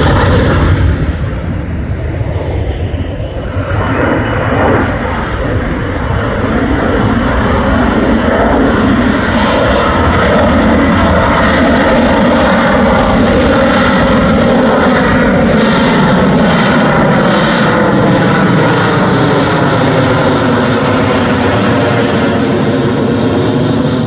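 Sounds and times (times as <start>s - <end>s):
jet flying overhead roaring: 0.0s - 24.0s.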